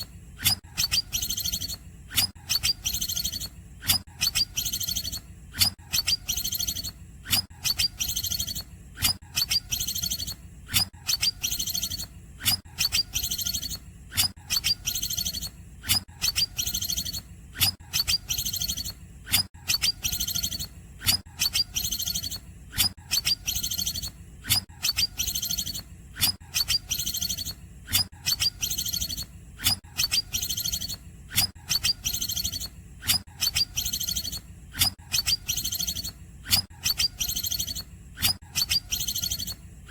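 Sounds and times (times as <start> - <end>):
bird high chirping song: 0.0 - 39.9.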